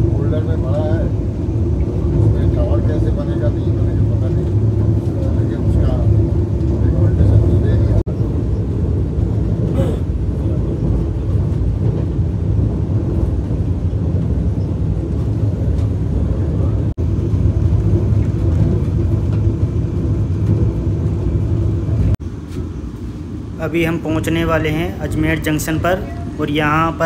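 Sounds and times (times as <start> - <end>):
electric train rumbling on track: 0.0 - 27.0.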